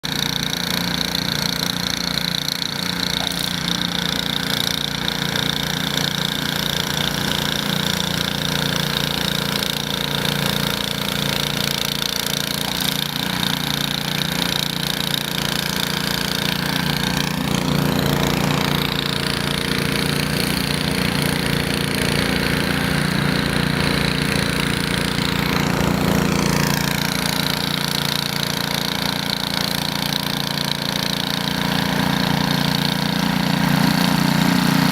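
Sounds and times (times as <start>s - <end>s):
snowblower engine running: 0.0s - 34.9s.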